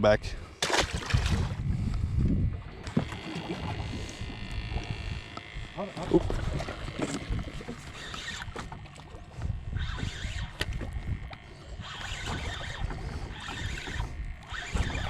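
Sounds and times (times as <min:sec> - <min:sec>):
water washing against hull: 0:00.6 - 0:01.8, 0:02.5 - 0:05.4, 0:06.0 - 0:15.0
wind buffeting microphone: 0:01.0 - 0:07.9, 0:09.2 - 0:15.0.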